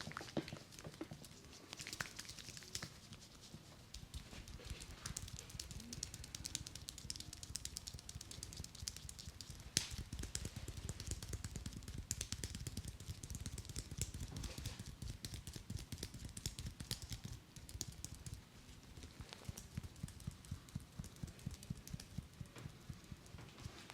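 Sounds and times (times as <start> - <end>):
hands patting a head: 0.2 - 23.9.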